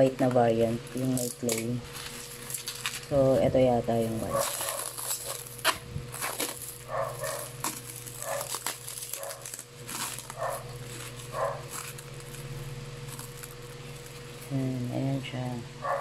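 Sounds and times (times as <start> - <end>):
steady low hum: 0.0 - 16.0
plastic wrap crinkling: 0.9 - 14.9.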